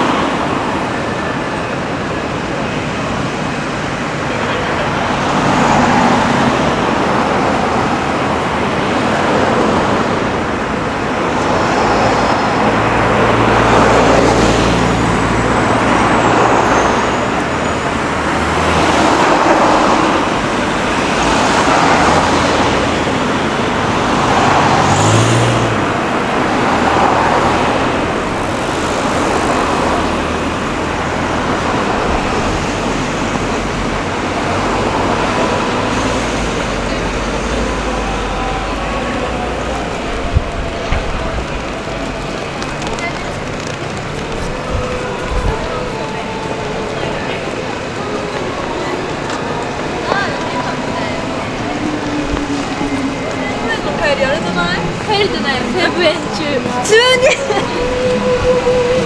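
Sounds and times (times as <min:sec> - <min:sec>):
car engines running: 0:00.0 - 0:59.0
cars passing: 0:00.0 - 0:59.0.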